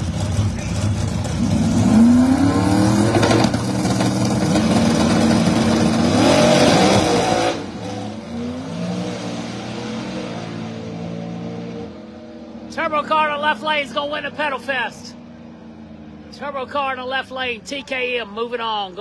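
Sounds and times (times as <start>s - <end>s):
drag racing cars at full throttle: 0.0s - 19.0s.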